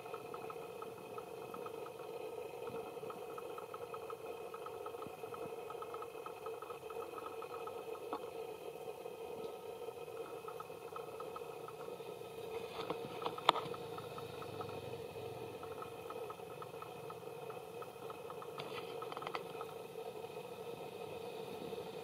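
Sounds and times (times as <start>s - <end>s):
faint ticks: 0.0s - 8.5s, 9.4s - 22.0s.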